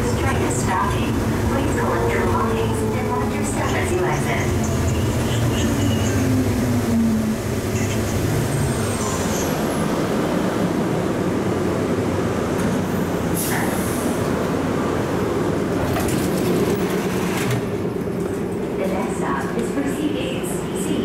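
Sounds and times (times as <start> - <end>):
train car rumbling: 0.0 - 21.0.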